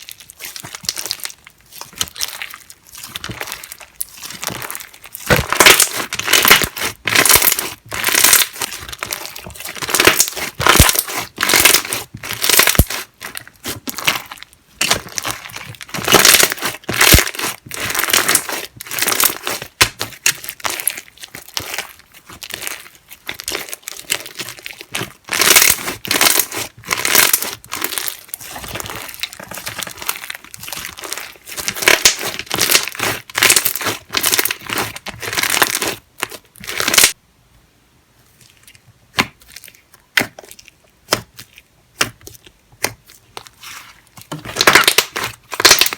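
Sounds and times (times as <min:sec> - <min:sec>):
slime crackling and popping: 0:00.0 - 0:37.2, 0:38.6 - 0:45.9.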